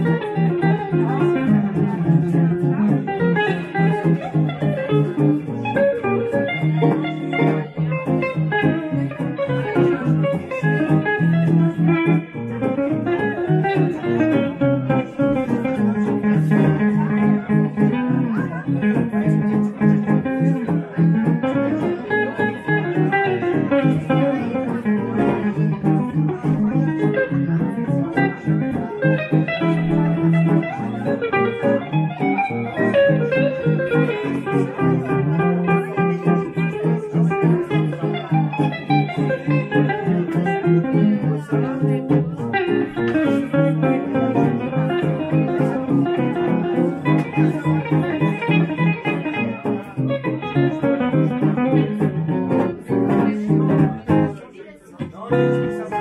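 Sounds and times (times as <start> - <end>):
lead guitar melody: 0.0 - 56.0
rhythm guitar chords: 0.0 - 56.0.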